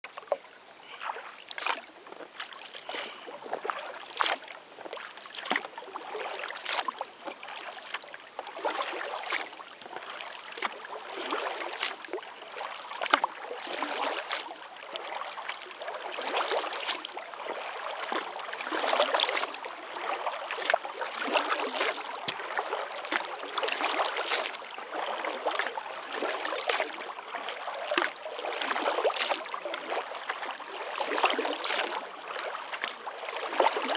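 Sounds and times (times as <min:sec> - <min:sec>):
kayak paddle splashing water: 0:00.0 - 0:33.9.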